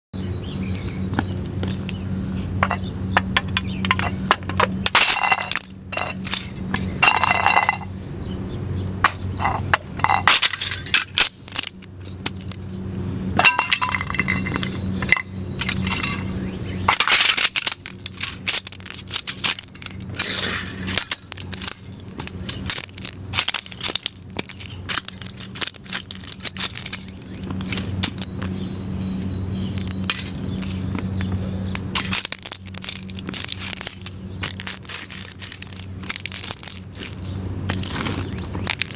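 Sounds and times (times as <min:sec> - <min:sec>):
steady low hum: 0:00.2 - 0:38.9
plastic cups crunching underfoot: 0:03.4 - 0:07.9, 0:09.4 - 0:12.8, 0:13.4 - 0:16.3, 0:16.9 - 0:28.7, 0:29.6 - 0:38.9.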